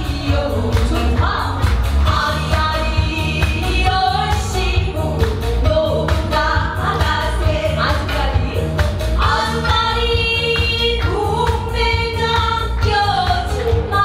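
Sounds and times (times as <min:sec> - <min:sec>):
amplified accompaniment with bass beat: 0:00.0 - 0:14.0
women singing folk songs: 0:00.0 - 0:14.0.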